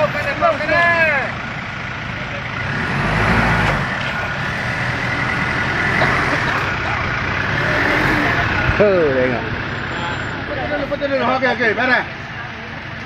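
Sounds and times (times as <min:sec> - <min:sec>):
truck engine running under load: 0:00.0 - 0:13.0.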